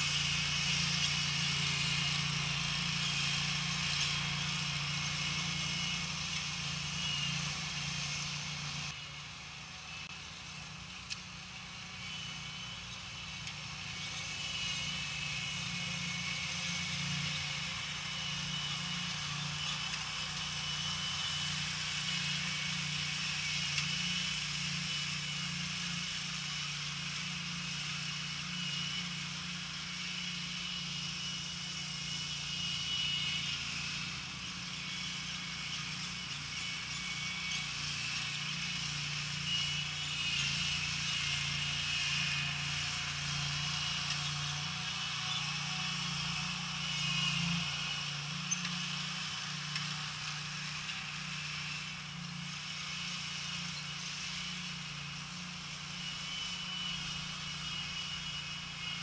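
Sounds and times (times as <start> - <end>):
small engine humming: 0.0 - 59.0.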